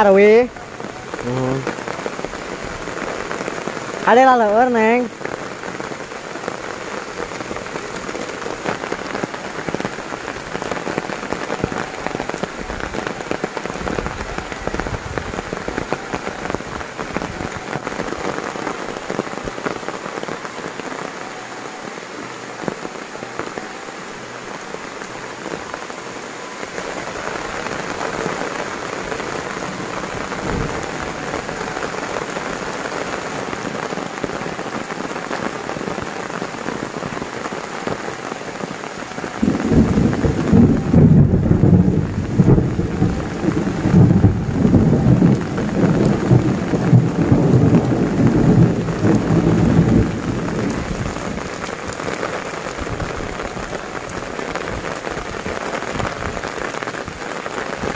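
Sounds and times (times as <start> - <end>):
heavy rain on leaves and water: 0.0 - 57.9.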